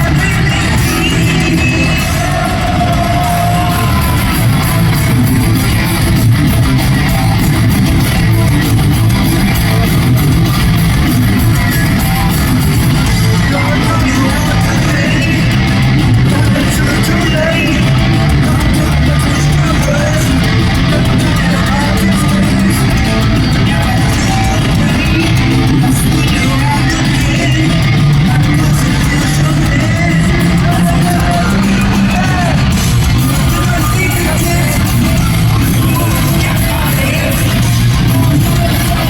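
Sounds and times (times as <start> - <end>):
heavy metal band playing live: 0.0 - 39.0.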